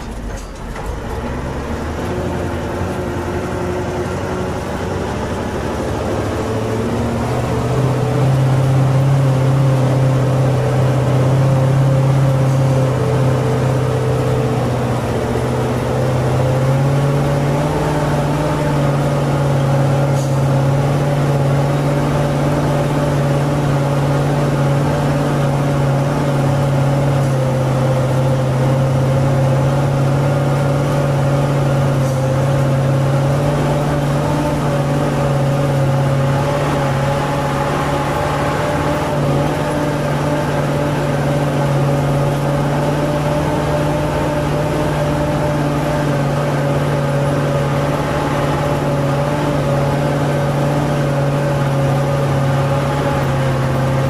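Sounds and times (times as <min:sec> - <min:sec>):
truck engine running under load: 0:00.0 - 0:54.0.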